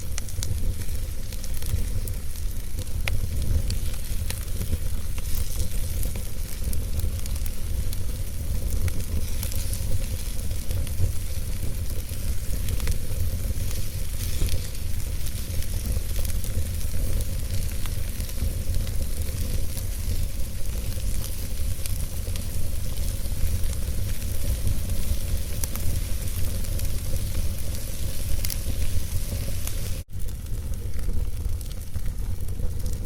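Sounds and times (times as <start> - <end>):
wood fire burning and crackling: 0.0 - 33.0.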